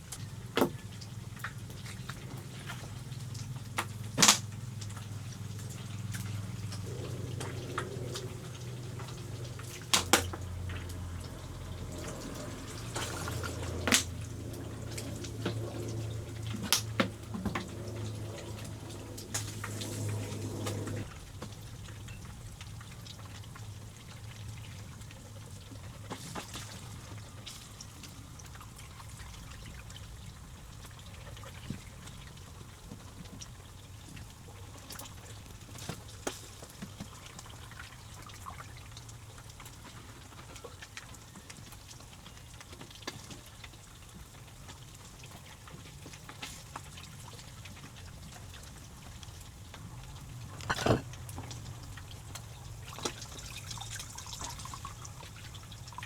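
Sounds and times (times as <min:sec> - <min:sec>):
water trickling and dripping: 0:00.0 - 0:56.0.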